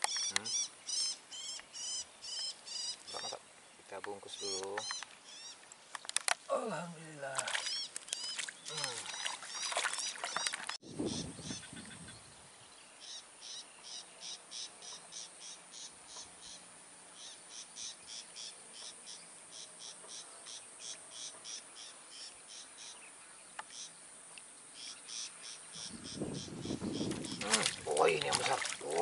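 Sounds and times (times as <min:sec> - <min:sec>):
insect chirping: 0:00.0 - 0:29.0.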